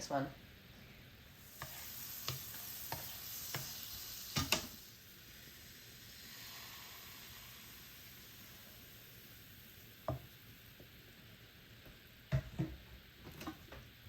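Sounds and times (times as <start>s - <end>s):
batter sizzling in a frying pan: 0.5s - 14.0s.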